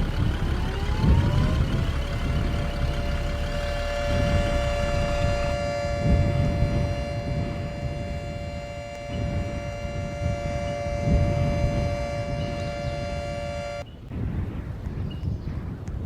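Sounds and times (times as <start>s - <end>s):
siren steady tone: 0.0s - 13.9s
wind buffeting microphone: 0.0s - 16.0s.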